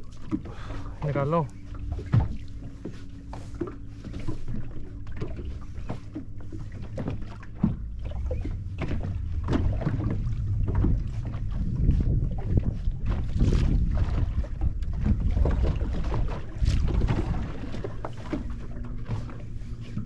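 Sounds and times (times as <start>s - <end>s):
water lapping against boat hull: 0.0s - 20.0s
wind buffeting microphone: 0.0s - 20.0s.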